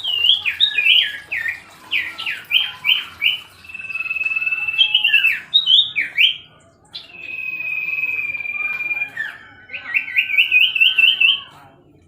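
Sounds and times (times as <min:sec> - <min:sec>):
bird singing whistled notes: 0:00.0 - 0:11.6.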